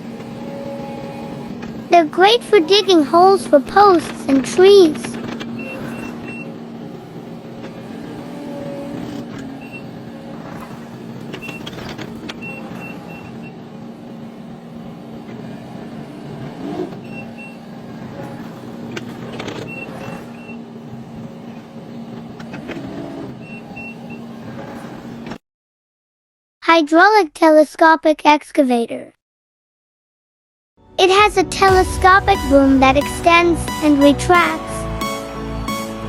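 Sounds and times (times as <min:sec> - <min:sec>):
heavy machine engine running: 0:00.0 - 0:25.3, 0:31.0 - 0:36.0.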